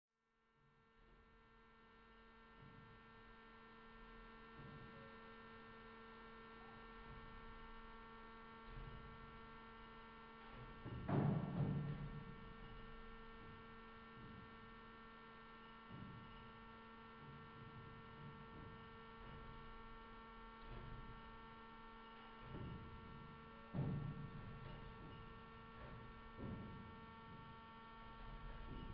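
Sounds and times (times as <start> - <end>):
steady electrical hum: 0.5 - 28.9.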